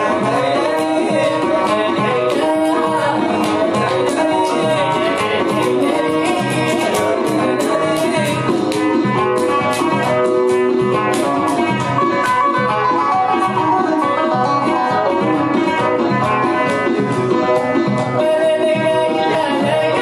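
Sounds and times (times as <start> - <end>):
banjo: 0.0 - 20.0
electric guitar: 0.0 - 20.0.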